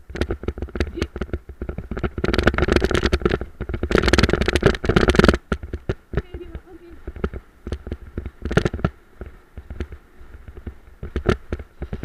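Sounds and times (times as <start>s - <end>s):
cart rattling over dirt trail: 0.0s - 12.0s.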